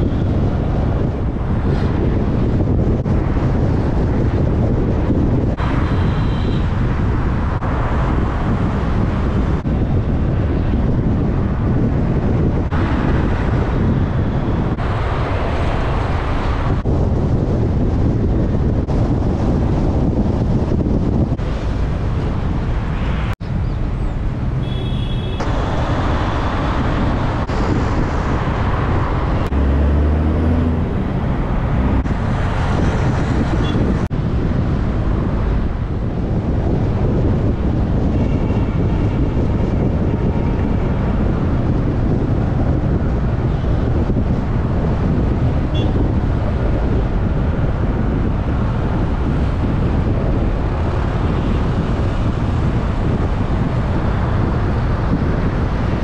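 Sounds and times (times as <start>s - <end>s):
car driving at speed rumble: 0.0s - 56.0s
traffic noise: 0.0s - 56.0s
wind rushing over microphone: 0.0s - 56.0s.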